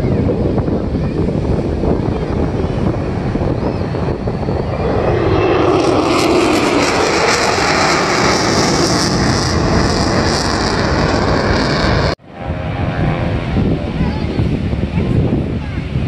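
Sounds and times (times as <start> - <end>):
fighter jet flying past: 0.6 - 16.0.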